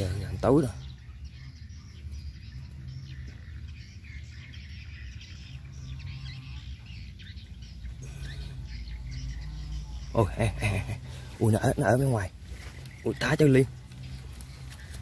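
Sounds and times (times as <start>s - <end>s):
low steady rumble: 0.0s - 15.0s
small birds chirping: 0.0s - 15.0s.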